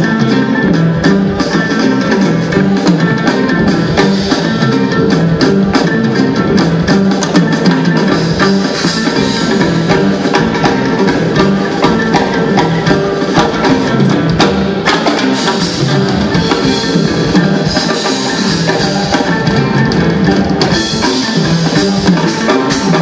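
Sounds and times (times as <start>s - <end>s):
busy percussion strokes: 0.0s - 23.0s
jazz ensemble playing: 0.0s - 23.0s.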